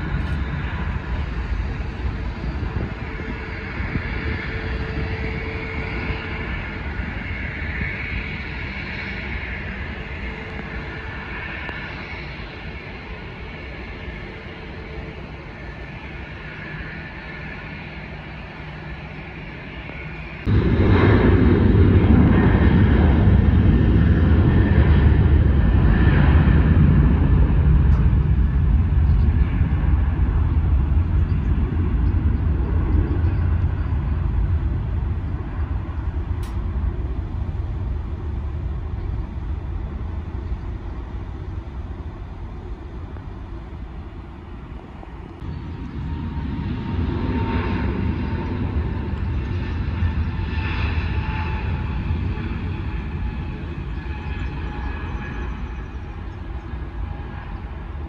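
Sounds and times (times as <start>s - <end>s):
jet engines roaring at takeoff: 0.0s - 58.0s
quieter engine rumble: 0.0s - 58.0s.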